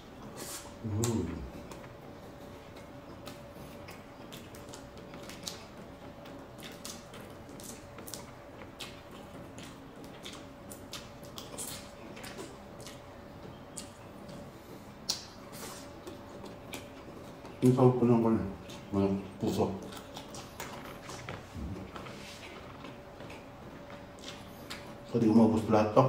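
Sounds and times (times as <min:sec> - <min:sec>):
person chewing and lip-smacking: 0:00.0 - 0:17.8, 0:18.5 - 0:25.1.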